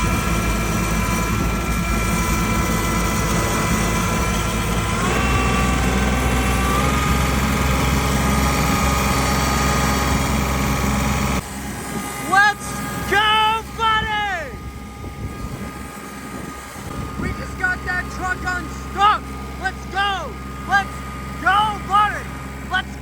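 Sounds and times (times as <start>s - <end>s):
vehicle engine running under load: 0.0s - 23.0s.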